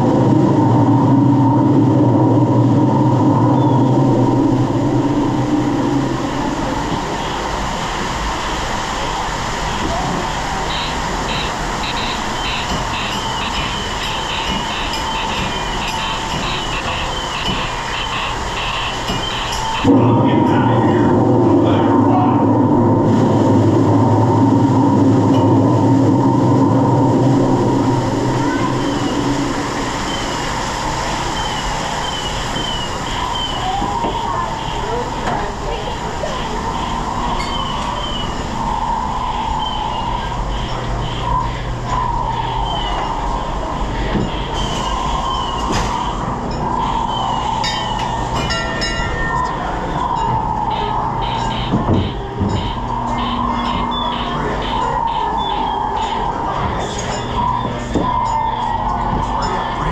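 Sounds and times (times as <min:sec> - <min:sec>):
ride machinery rumble and hum: 0:00.0 - 0:59.9
high electronic tones: 0:09.0 - 0:59.9.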